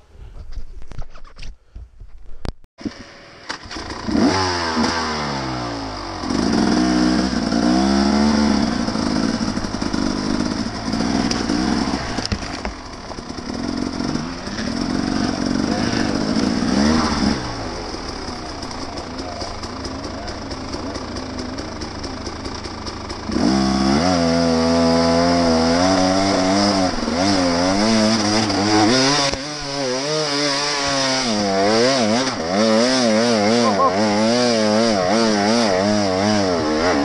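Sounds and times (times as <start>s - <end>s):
dirt bike engine revving: 3.0s - 37.0s.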